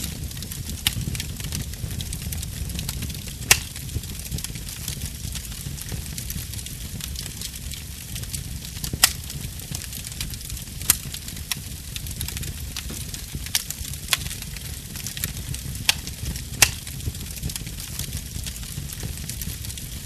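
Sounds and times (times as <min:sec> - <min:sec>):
fire rumble and hiss: 0:00.0 - 0:20.0
wood fire crackling: 0:00.0 - 0:20.0.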